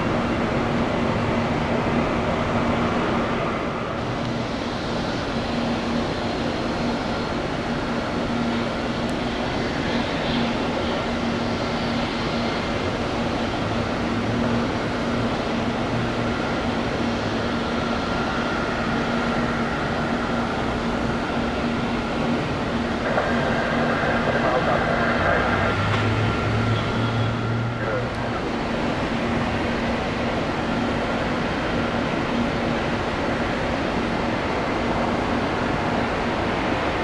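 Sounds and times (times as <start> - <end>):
constant low hum: 0.0 - 37.0
jet engines rushing: 0.0 - 37.0.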